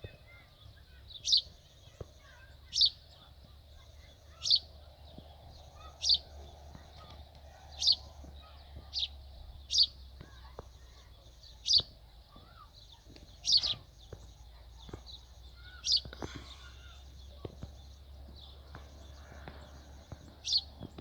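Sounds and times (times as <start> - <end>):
birds twittering: 0.0 - 21.0
small bird chirping: 0.0 - 21.0.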